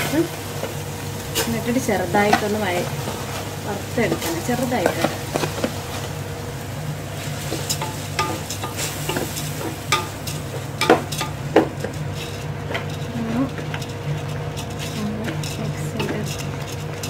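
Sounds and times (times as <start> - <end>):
steady low hum: 0.0 - 17.0
wooden spatula scraping pot: 1.2 - 6.2, 7.1 - 17.0.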